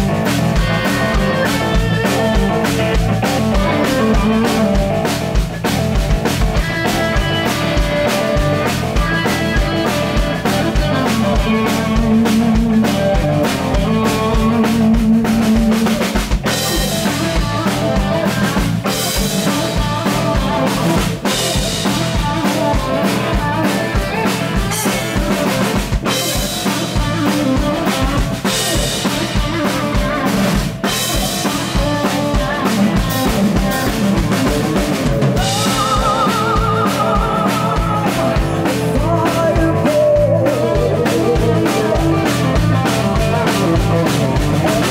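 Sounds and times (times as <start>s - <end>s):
drum kit steady beat: 0.0s - 44.9s
electric guitar lead: 0.0s - 44.9s.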